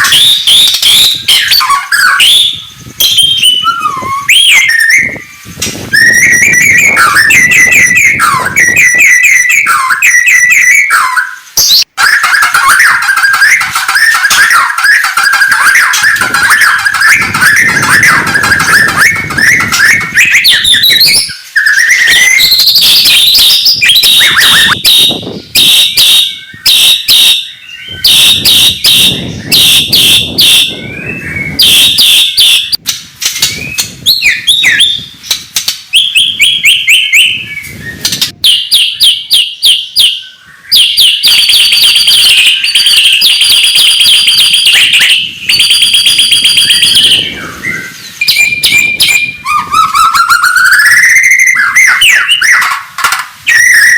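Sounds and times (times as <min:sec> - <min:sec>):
songbird singing trills: 0:00.0 - 0:53.9.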